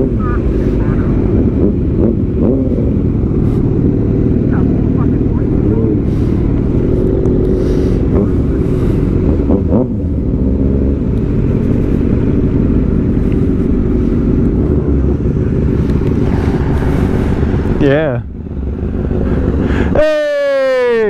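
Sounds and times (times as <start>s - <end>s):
sport motorcycle engine riding: 0.0s - 21.0s.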